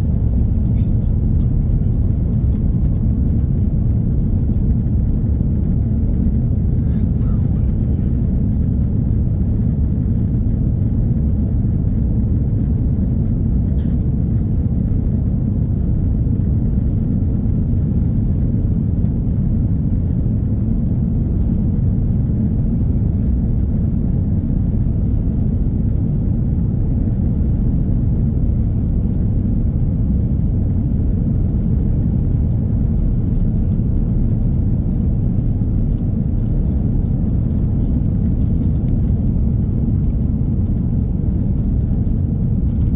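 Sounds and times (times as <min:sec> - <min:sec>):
airliner cabin rumble: 0:00.0 - 0:42.9.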